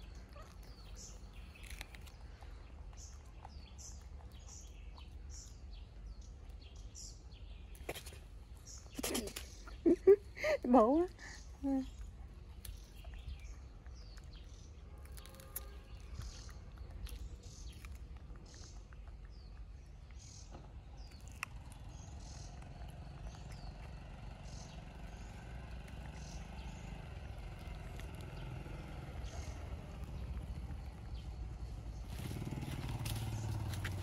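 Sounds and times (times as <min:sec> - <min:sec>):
faint engine drone: 0:00.0 - 0:34.0
low outdoor rumble: 0:00.0 - 0:34.0
small birds chirping: 0:00.0 - 0:34.0.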